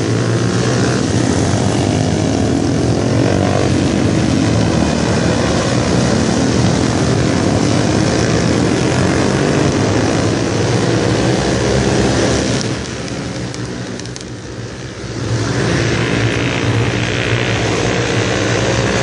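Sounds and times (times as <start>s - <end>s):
minibike engines revving past: 0.0s - 19.0s.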